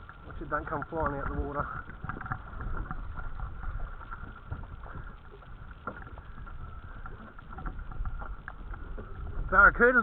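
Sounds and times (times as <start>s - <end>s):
water lapping against boat hull: 0.0s - 10.0s
wind rumble on microphone: 0.0s - 10.0s.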